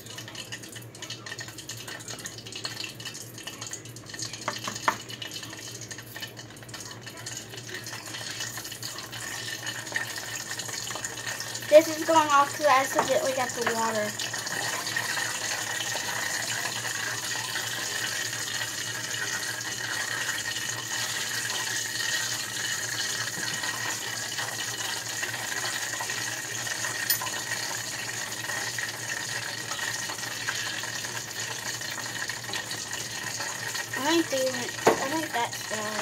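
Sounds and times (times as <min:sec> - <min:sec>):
hot oil sizzling and spitting: 0:00.0 - 0:36.0.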